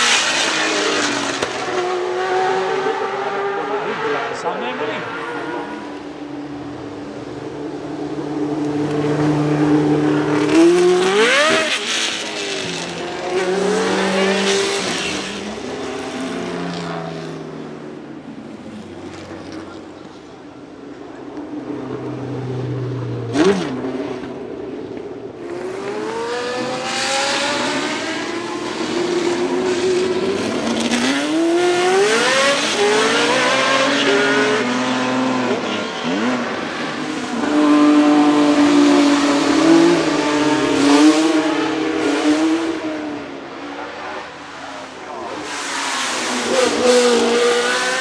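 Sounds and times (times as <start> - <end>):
race car engine at high revs: 0.0 - 19.9, 23.0 - 48.0.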